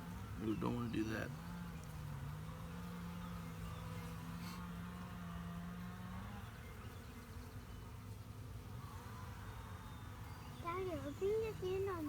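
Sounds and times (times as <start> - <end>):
faint hum of bee colony: 0.0 - 12.0
close bee buzzing: 1.4 - 12.0.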